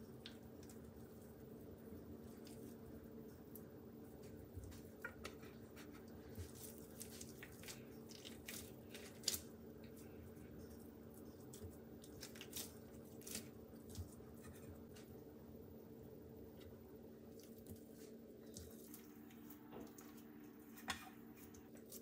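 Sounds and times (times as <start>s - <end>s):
hands squishing dough: 0.0s - 15.3s, 16.4s - 22.0s
steady low hum: 0.0s - 22.0s.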